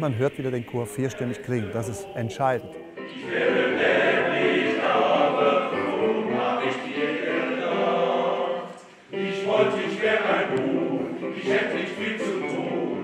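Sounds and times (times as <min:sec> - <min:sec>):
men's choir singing: 0:00.0 - 0:13.0.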